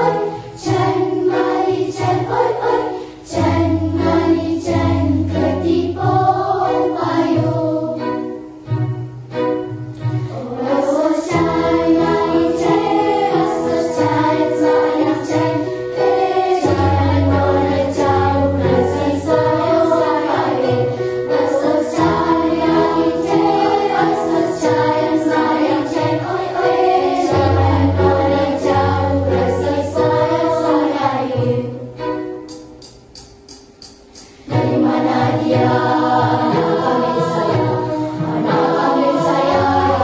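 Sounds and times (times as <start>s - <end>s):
girls' choir singing in harmony: 0.0s - 33.0s, 33.8s - 40.0s.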